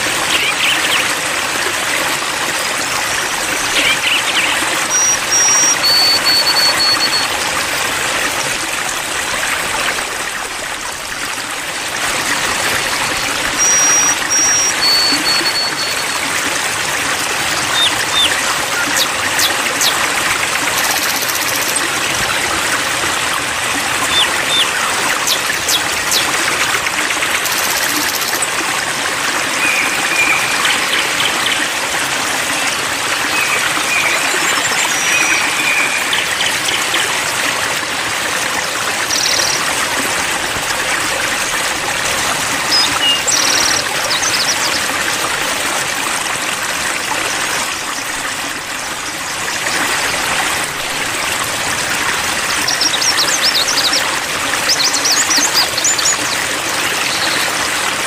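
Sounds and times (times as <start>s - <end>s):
babbling stream water: 0.0s - 58.0s.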